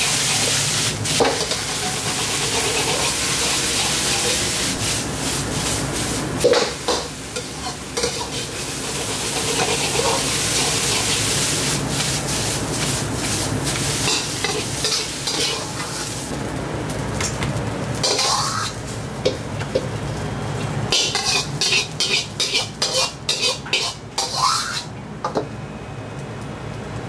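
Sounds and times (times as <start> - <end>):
rice sizzling in a wok: 0.0 - 24.9.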